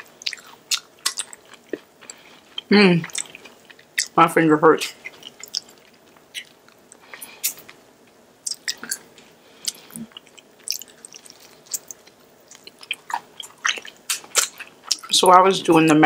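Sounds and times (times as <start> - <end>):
person chewing sticky chicken: 0.0 - 4.2, 4.9 - 15.1.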